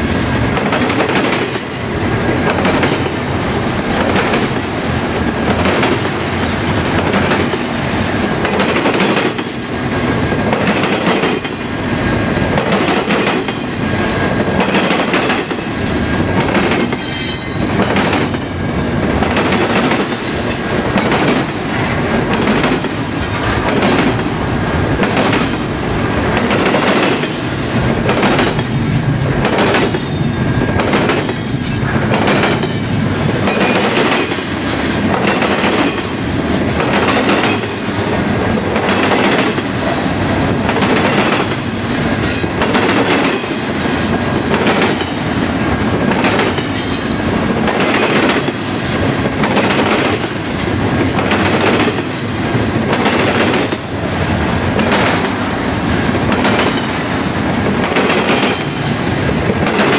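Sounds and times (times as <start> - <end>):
freight train rumbling past: 0.0 - 59.9
train wheels clacking: 0.4 - 24.4, 25.0 - 59.9.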